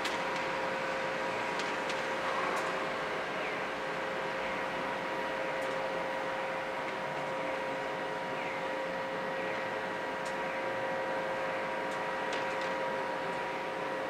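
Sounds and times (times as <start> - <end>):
constant machine hum: 0.0 - 14.0.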